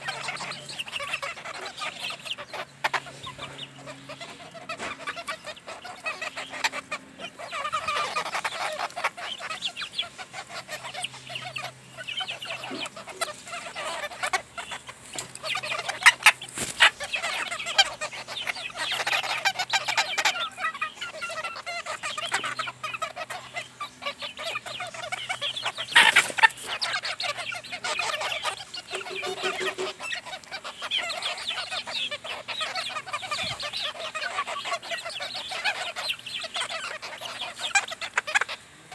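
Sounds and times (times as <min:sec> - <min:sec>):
hens clucking: 0:00.0 - 0:38.9.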